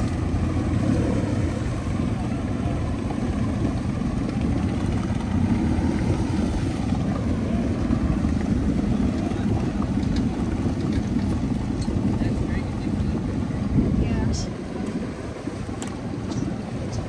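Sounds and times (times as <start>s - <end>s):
outboard motor running: 0.0s - 17.0s
propeller churning water: 0.0s - 17.0s.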